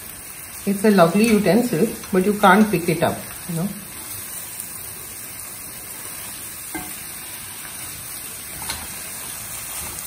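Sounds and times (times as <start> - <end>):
cabbage sizzling in a pot: 0.0 - 10.0.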